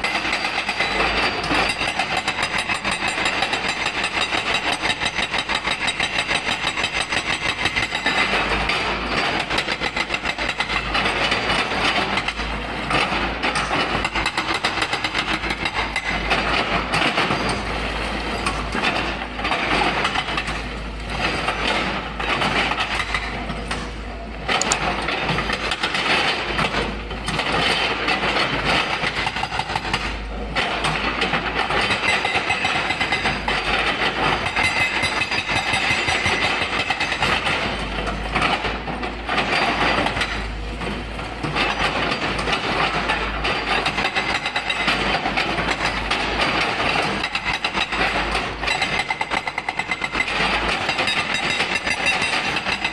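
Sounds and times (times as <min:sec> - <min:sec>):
excavator diesel engine: 0:00.0 - 0:52.9
hydraulic breaker hammering rock: 0:00.0 - 0:52.9.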